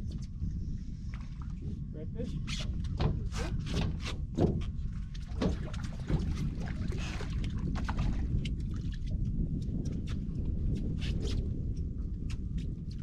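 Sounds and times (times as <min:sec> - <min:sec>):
steady low rumble: 0:00.0 - 0:13.0
water slapping boat side: 0:02.4 - 0:13.0.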